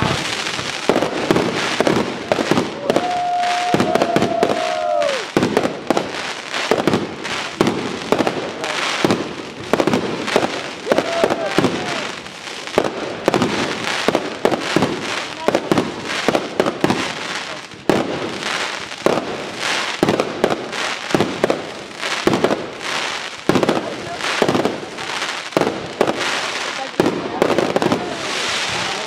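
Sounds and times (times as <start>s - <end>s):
fireworks bursting bangs: 0.0s - 29.0s.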